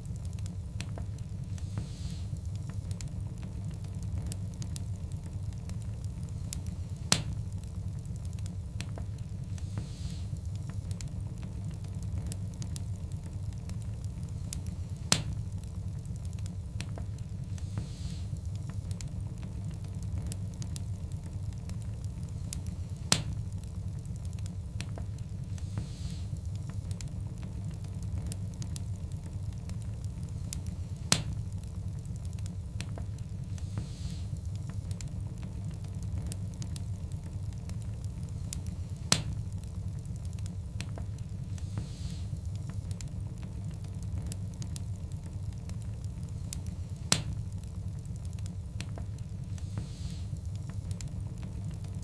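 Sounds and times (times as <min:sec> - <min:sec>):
log fire popping: 0:00.0 - 0:52.0
wood fire crackling: 0:00.0 - 0:52.0.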